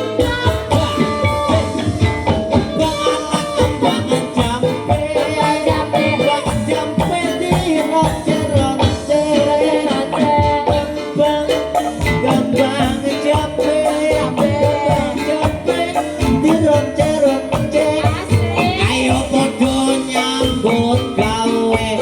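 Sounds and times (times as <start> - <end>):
driving drum beat: 0.0 - 22.0
melodic instrument lines: 0.0 - 22.0.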